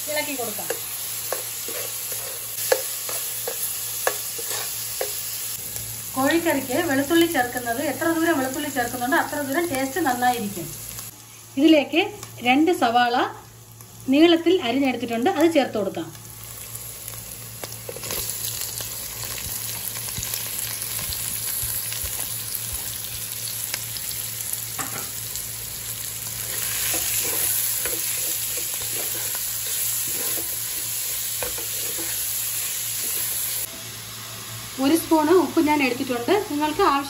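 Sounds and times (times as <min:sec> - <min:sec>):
onions sizzling in oil: 0:00.0 - 0:37.0.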